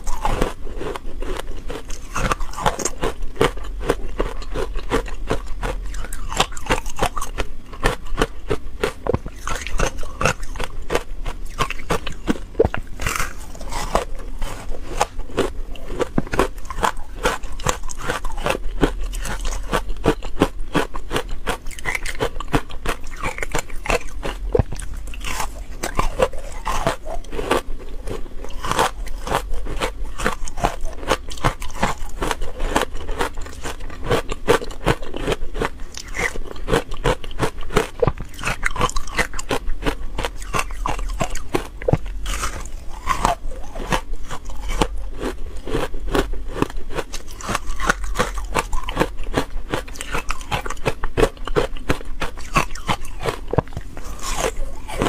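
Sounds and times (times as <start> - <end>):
ice crunching while chewed: 0.0 - 55.0.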